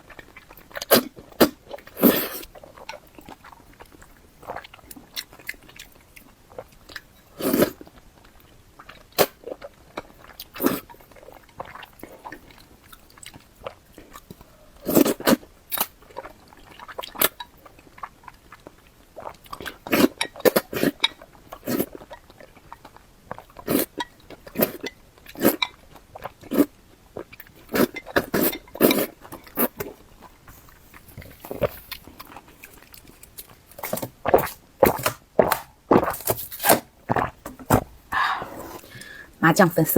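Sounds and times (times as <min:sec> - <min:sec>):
person chewing noodles: 0:00.0 - 0:39.4.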